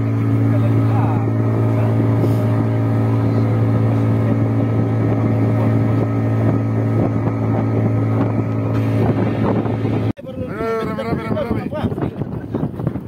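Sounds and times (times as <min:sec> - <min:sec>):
boat engine droning: 0:00.0 - 0:13.0
water rushing along hull: 0:00.0 - 0:13.0.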